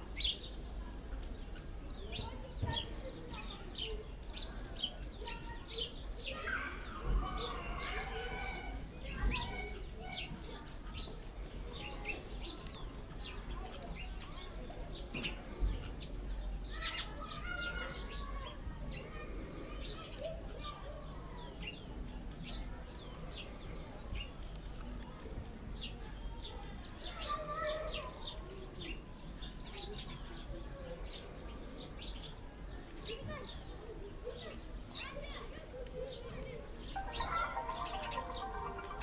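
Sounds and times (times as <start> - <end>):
sparrows chirping: 0.0 - 39.0.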